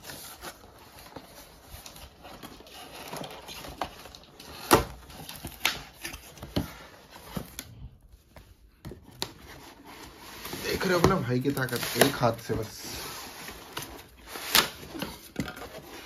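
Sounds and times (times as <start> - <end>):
cardboard scraping and rustling: 0.0 - 7.7, 8.8 - 16.0.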